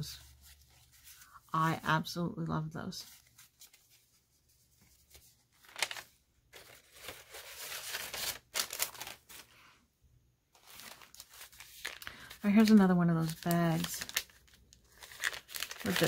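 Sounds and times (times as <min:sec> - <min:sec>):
paper rustling and crinkling: 0:00.0 - 0:01.4, 0:03.0 - 0:09.7, 0:10.5 - 0:16.0.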